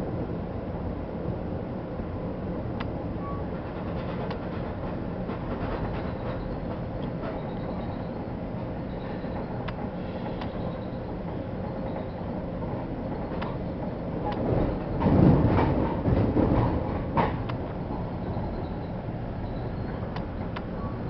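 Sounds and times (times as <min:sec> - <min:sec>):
train rumbling: 0:00.0 - 0:21.0
train rattling: 0:00.1 - 0:21.0.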